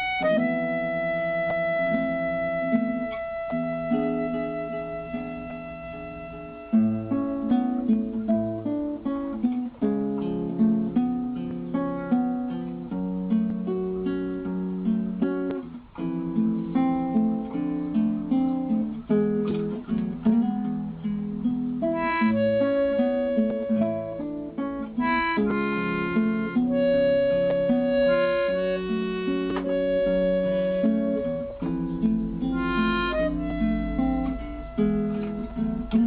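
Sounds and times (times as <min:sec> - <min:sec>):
acoustic guitar plucked melody: 0:00.0 - 0:36.0.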